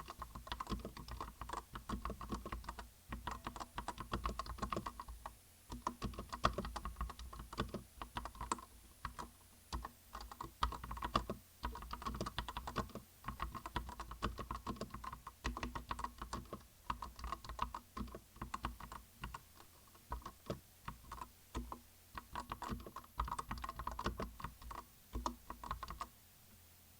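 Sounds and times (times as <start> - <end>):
mechanical keyboard typing: 0.0 - 26.1.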